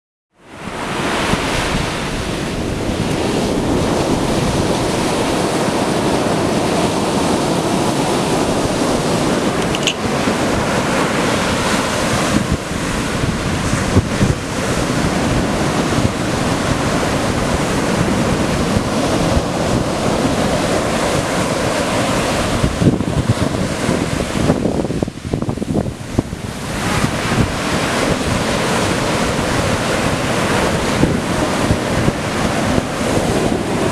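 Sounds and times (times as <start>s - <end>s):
ocean surf breaking on beach: 0.4s - 33.9s
wind rumbling on microphone: 0.5s - 33.9s.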